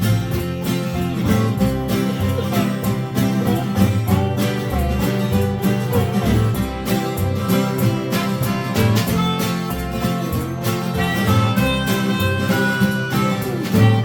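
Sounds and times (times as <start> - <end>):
band playing instrumental: 0.0 - 14.0.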